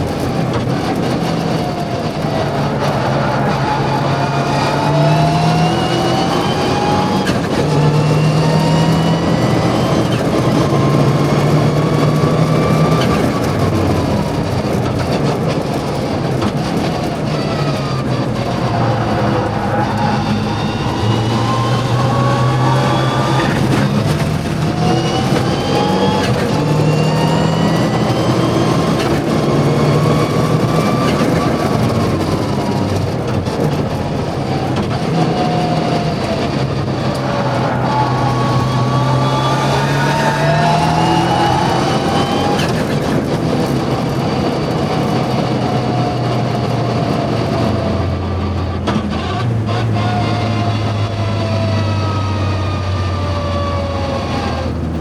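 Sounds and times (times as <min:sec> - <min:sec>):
rally car engine at full throttle: 0:00.0 - 0:55.0.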